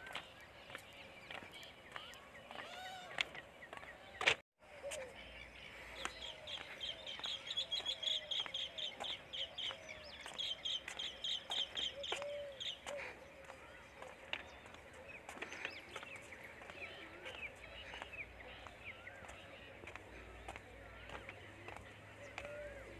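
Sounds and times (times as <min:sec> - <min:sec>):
birds chirping: 0:00.0 - 0:22.9.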